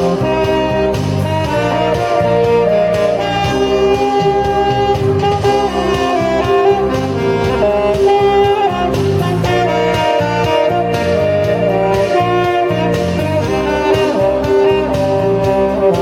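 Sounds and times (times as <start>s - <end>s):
backing accompaniment with bass: 0.0s - 16.0s
saxophone melody: 0.0s - 16.0s.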